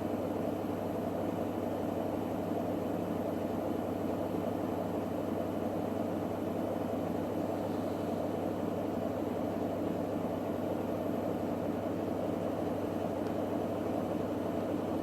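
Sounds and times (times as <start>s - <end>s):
washing machine spinning: 0.0s - 15.0s.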